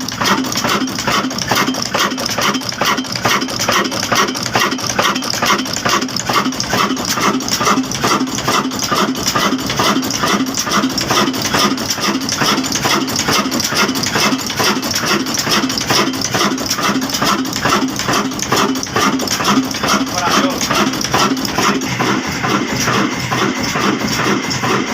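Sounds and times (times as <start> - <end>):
diesel engine knocking steadily: 0.0 - 24.9.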